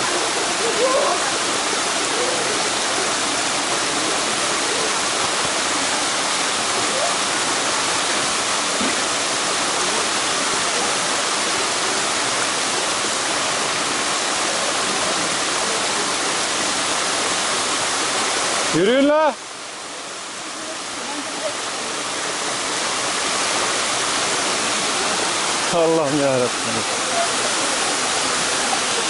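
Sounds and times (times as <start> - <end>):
waterfall and stream rushing: 0.0 - 29.0.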